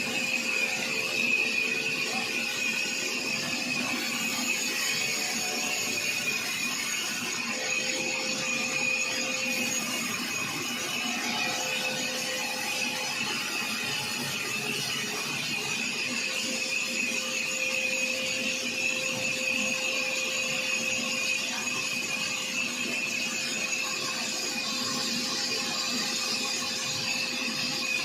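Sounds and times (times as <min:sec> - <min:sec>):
sawmill saw cutting wood: 0:00.0 - 0:28.0.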